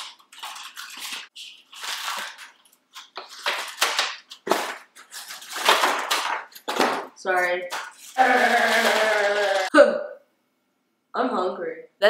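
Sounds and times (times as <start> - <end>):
wrapped sweets rustling in plastic bowls: 0.0 - 9.7.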